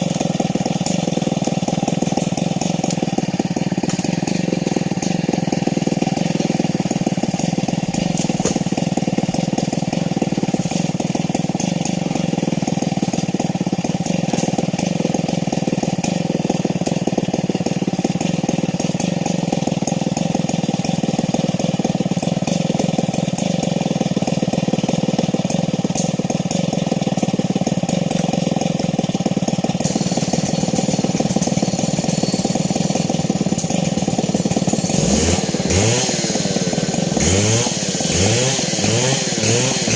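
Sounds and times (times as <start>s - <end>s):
chainsaw idling: 0.0s - 39.9s.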